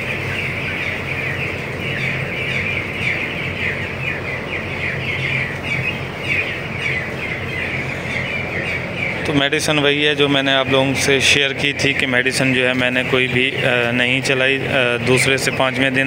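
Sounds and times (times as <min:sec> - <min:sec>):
chicks peeping: 0:00.0 - 0:16.0
steady low hum: 0:00.0 - 0:16.0.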